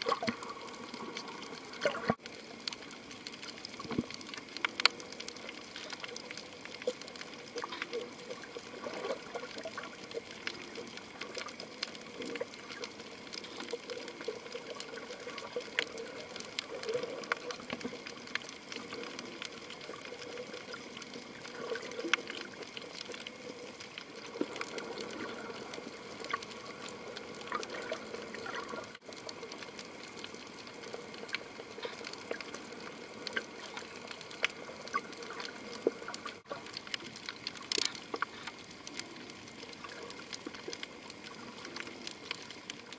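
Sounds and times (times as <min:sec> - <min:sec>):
sharp clicks and crackles: 0:00.0 - 0:42.9
underwater water swishing: 0:00.0 - 0:42.9.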